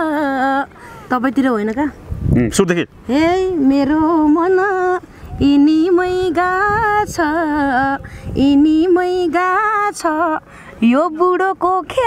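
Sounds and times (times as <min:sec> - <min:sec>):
woman singing folk melody: 0:00.0 - 0:02.0, 0:03.0 - 0:12.0.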